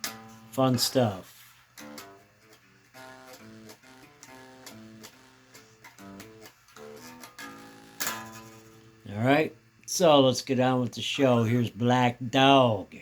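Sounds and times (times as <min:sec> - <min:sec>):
guitar picking single notes: 0:00.0 - 0:11.5.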